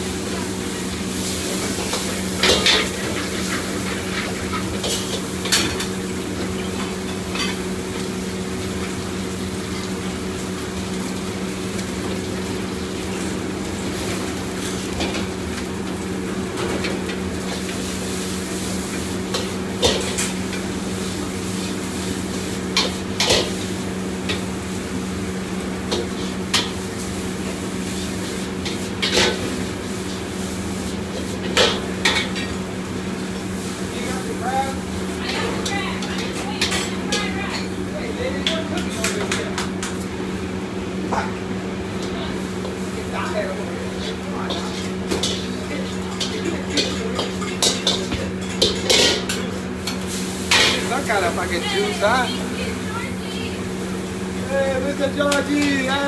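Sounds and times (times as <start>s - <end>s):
food sizzling: 0.0s - 56.0s.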